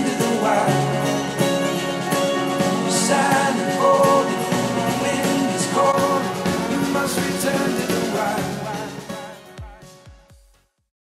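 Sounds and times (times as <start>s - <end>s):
song with drums over speakers: 0.0s - 10.8s.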